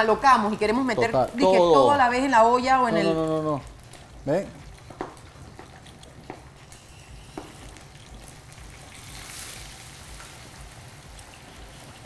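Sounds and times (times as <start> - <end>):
wings sizzling in hot oil: 0.0 - 12.0.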